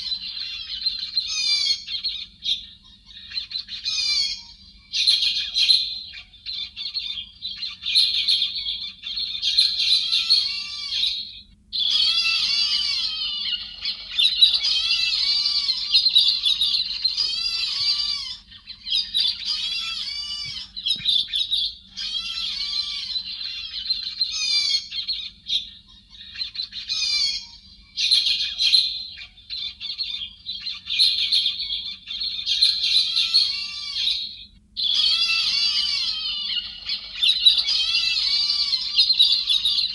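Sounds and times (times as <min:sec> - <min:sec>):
birds chattering and squawking: 0:00.0 - 0:39.9.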